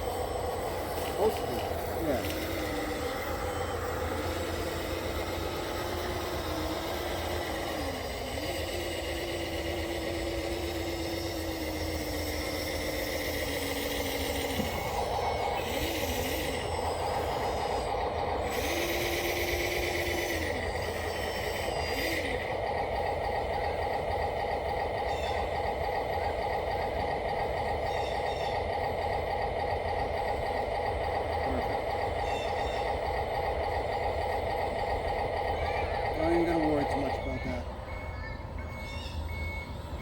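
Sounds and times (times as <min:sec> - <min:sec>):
electric motors humming: 0:00.0 - 0:40.0
motor whine: 0:00.0 - 0:40.0.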